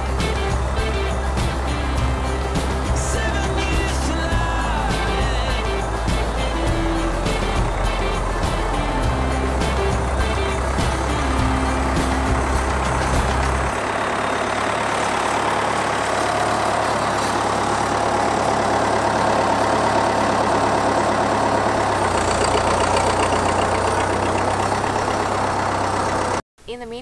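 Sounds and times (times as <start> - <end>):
vehicle engine running: 0.0 - 26.4.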